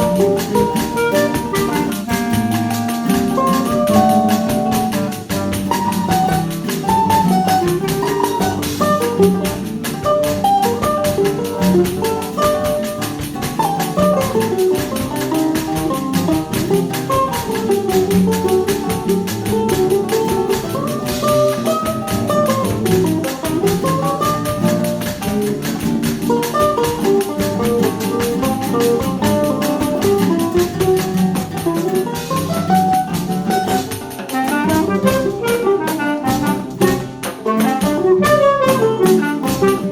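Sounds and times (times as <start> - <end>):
instrumental ensemble playing: 0.0 - 39.9.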